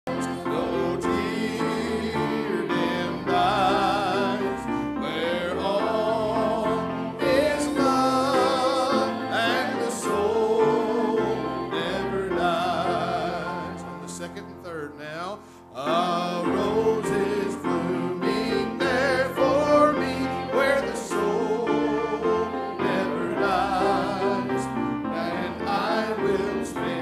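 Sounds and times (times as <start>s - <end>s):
piano accompaniment: 0.0s - 27.0s
congregation singing a hymn: 0.1s - 14.7s, 15.7s - 27.0s.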